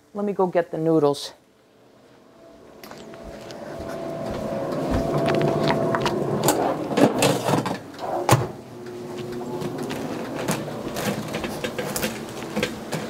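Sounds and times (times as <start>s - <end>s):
air fryer whirring: 1.8s - 13.0s.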